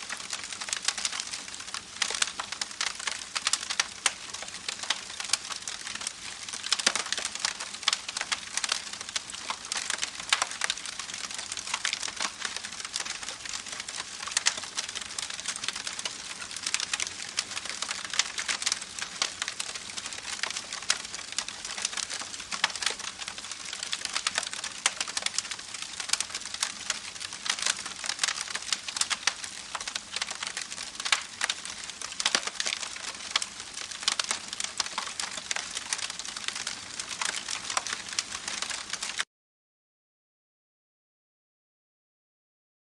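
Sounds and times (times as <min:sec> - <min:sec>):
campfire crackling and popping: 0:00.0 - 0:39.3.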